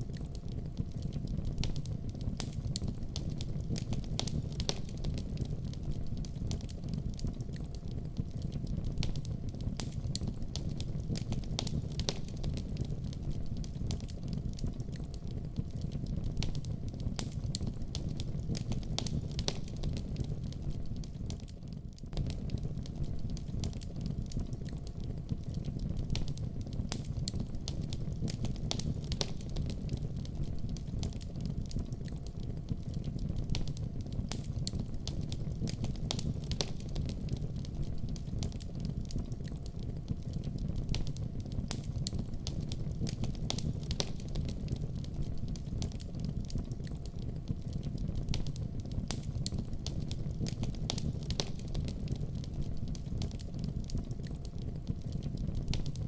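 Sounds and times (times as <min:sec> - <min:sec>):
fire popping and snapping: 0:00.0 - 0:56.0
wood fire crackling: 0:00.0 - 0:56.0.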